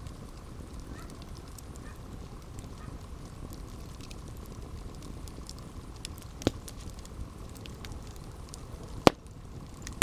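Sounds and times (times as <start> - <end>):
campfire low rumble: 0.0 - 10.0
fire crackles: 0.0 - 10.0.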